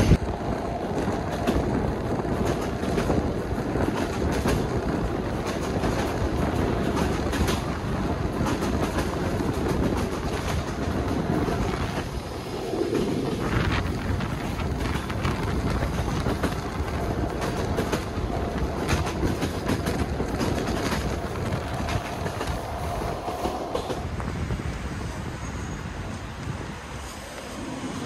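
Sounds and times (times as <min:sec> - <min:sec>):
clicks of wheels on rail: 0:00.0 - 0:12.2, 0:12.9 - 0:28.0
train wheels rumbling on rail: 0:00.0 - 0:28.0.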